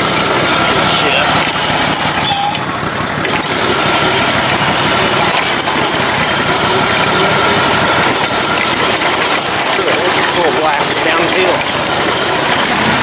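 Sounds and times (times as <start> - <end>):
riding mower engine running: 0.0 - 13.0.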